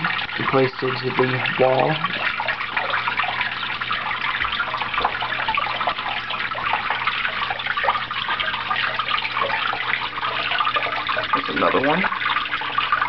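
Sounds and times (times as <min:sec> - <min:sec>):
small waterfalls splashing into pools: 0:00.0 - 0:13.0.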